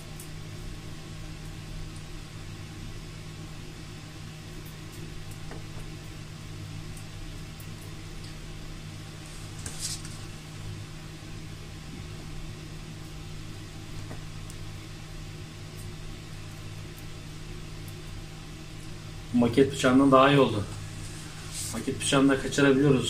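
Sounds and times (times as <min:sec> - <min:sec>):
machine low hum: 0:00.0 - 0:23.0
plastic melting sizzle: 0:00.0 - 0:23.0.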